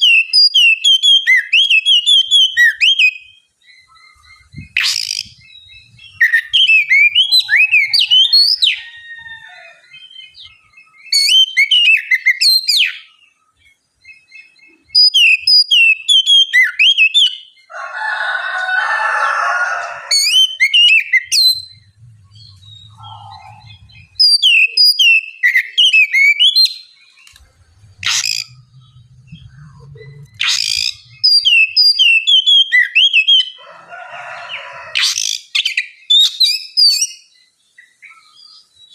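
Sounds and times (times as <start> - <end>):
bird singing whistled phrases: 0.0 - 8.9, 9.9 - 13.2, 14.0 - 17.6, 20.1 - 33.6, 35.0 - 38.6.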